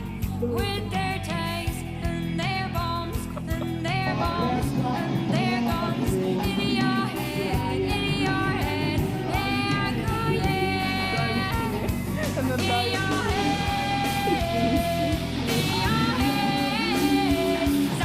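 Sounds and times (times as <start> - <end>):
pop-rock song with female singer: 0.0 - 18.0.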